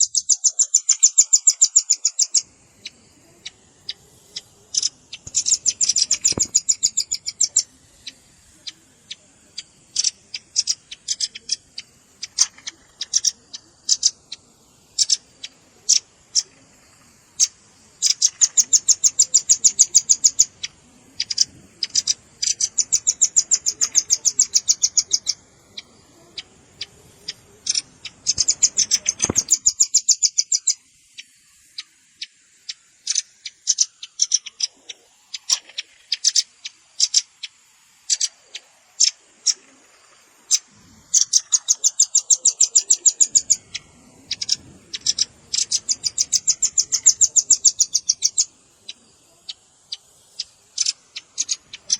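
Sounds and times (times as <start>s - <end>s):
bird trilling chip notes: 0.0s - 14.4s, 17.4s - 30.8s, 32.7s - 39.7s, 40.5s - 51.9s.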